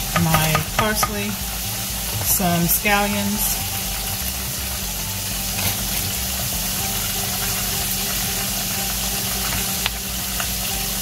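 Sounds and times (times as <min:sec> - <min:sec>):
low even hum: 0:00.0 - 0:11.0
oil sizzling in a wok: 0:00.0 - 0:11.0.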